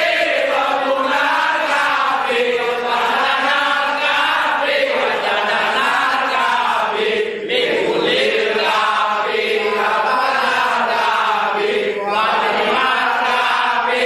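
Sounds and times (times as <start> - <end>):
men chanting in unison: 0.0 - 14.0.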